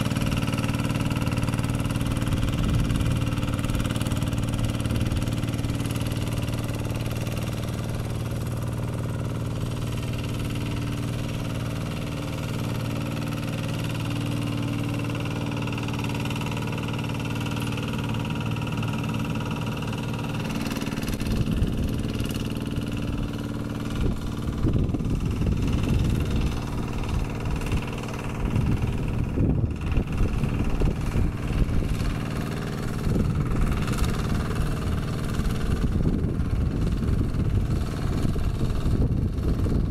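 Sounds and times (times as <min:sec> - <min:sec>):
diesel hand tractor engine: 0:00.0 - 0:39.9.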